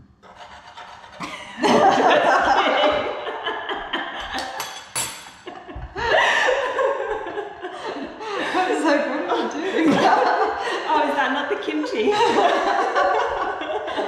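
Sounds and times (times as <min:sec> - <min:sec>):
women laughing: 0:01.2 - 0:14.0.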